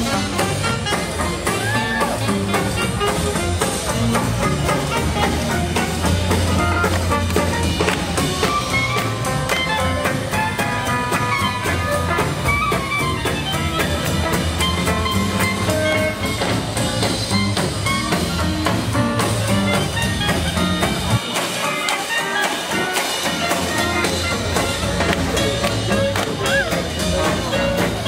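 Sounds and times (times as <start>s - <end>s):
swing band playing: 0.0s - 28.0s.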